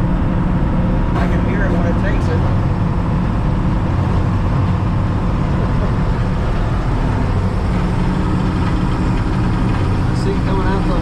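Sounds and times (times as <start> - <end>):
combine engine drone: 0.0 - 11.0
machinery noise: 0.0 - 11.0.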